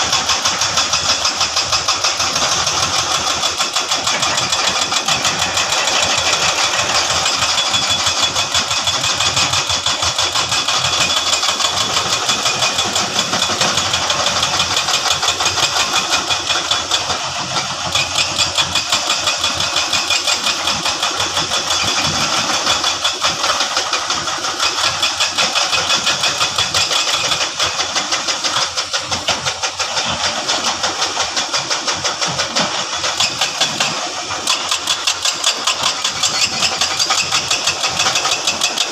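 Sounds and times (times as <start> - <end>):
construction machine engine pulsing: 0.0 - 38.9.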